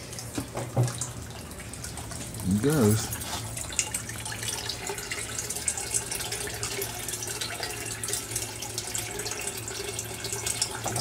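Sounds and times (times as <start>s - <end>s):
liquid splashing into a tank: 0.0s - 11.0s.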